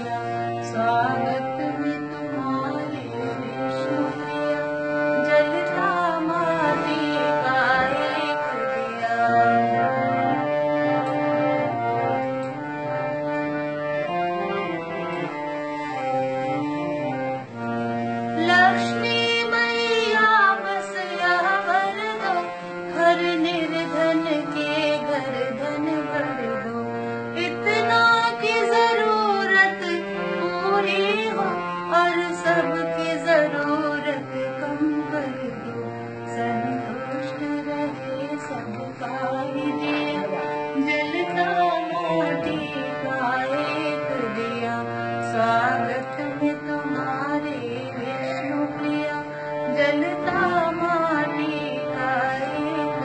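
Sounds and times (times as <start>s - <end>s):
woman singing: 0.0s - 10.4s, 18.3s - 53.0s
harmonium playing held chords: 0.0s - 53.0s.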